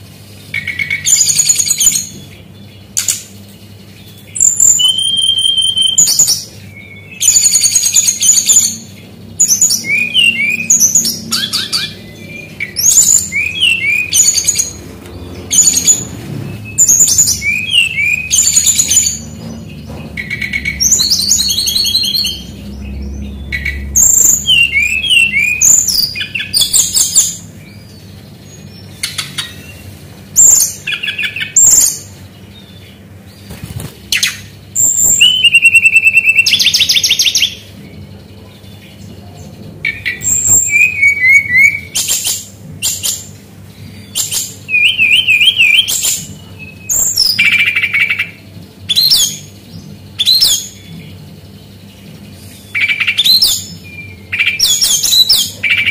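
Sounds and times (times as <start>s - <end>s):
bird singing varied phrases: 0.3s - 19.4s, 20.2s - 55.9s.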